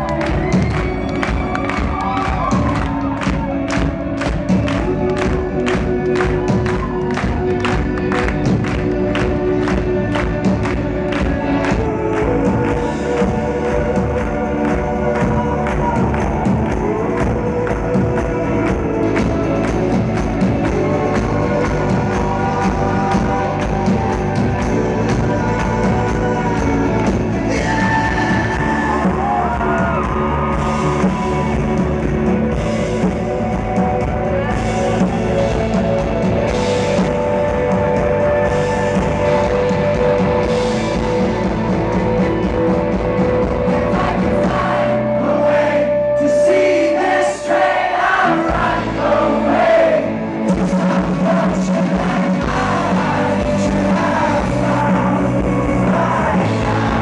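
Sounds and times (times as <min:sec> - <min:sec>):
rock band playing live: 0:00.0 - 0:47.0, 0:47.6 - 0:57.0
lead singer singing: 0:09.3 - 0:57.0.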